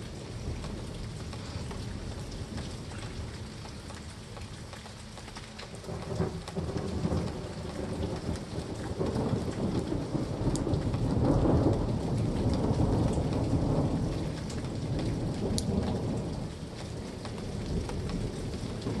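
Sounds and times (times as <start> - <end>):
low thunder rumble: 0.0 - 3.8, 5.8 - 19.0
steady rain falling: 0.0 - 19.0.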